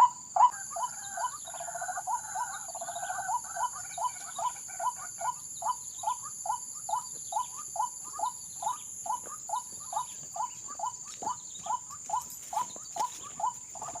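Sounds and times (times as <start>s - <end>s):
waterhen call: 0.0s - 14.0s.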